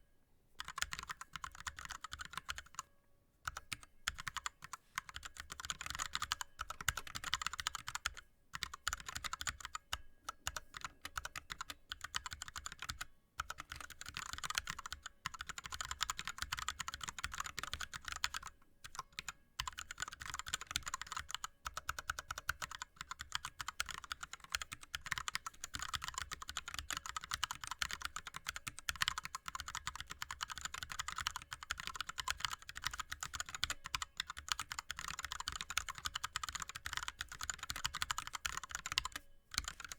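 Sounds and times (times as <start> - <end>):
fast keyboard typing: 0.6 - 2.8, 3.5 - 9.8, 10.5 - 39.9.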